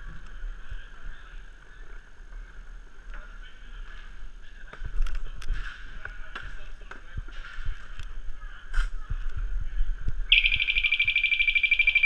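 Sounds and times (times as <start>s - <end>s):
wind rumble on microphone: 0.0s - 10.3s.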